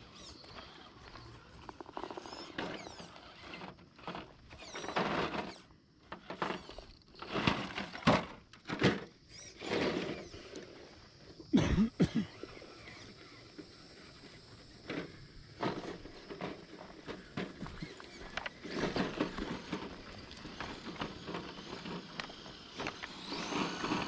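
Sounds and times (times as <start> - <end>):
toy truck tyres crunching on gravel: 0.0 - 11.2, 12.3 - 24.0.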